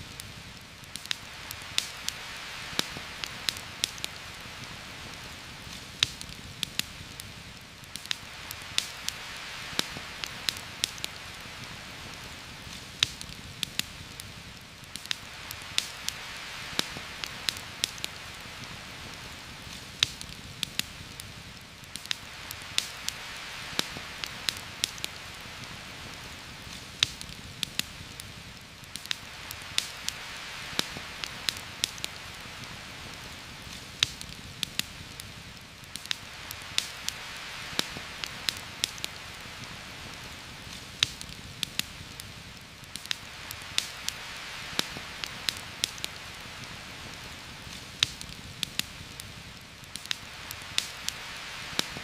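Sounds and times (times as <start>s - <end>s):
campfire crackling: 0.0s - 52.0s
heavy rain on foliage: 0.0s - 52.0s.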